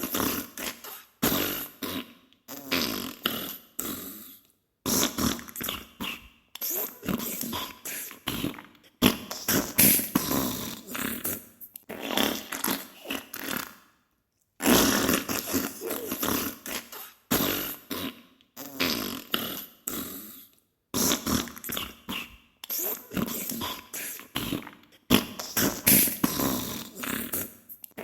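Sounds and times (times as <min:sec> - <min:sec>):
wet sputtering farts: 0:00.0 - 0:04.0, 0:04.9 - 0:13.8, 0:14.6 - 0:20.2, 0:21.0 - 0:28.0.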